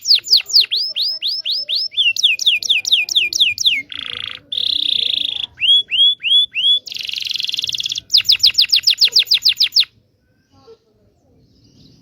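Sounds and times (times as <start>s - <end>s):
canary singing: 0.0s - 10.0s.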